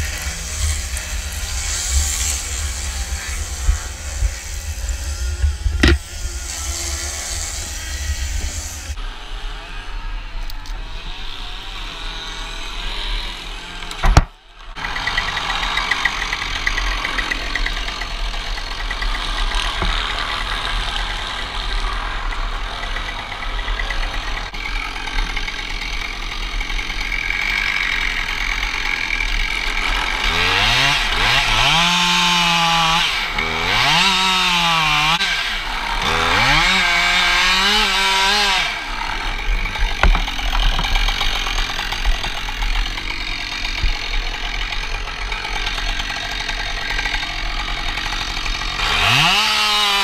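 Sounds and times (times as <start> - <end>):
chainsaw revving: 0.0 - 50.0.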